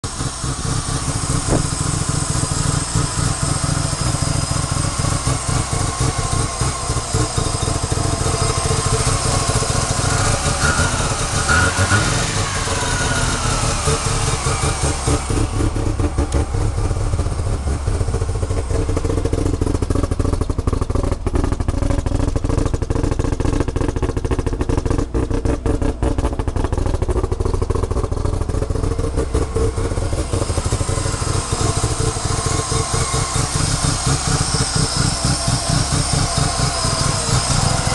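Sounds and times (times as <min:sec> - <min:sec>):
rotary engine idling choppily: 0:00.0 - 0:37.9.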